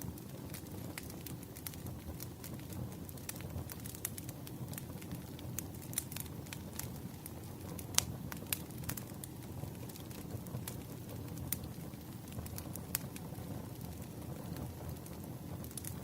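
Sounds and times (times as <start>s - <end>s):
firewood crackling and popping: 0.0s - 16.0s
rush of flames: 0.0s - 16.0s.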